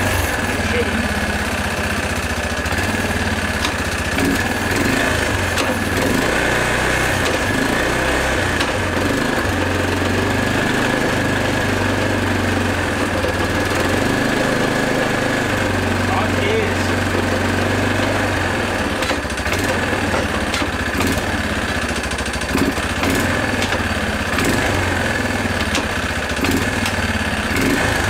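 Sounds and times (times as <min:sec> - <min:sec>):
quad engine running: 0:00.0 - 0:28.0.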